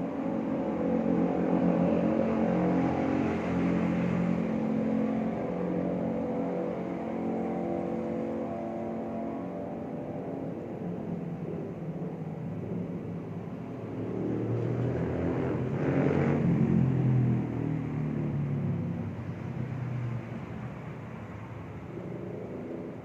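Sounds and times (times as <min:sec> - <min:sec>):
steady engine hum: 0:00.0 - 0:23.0.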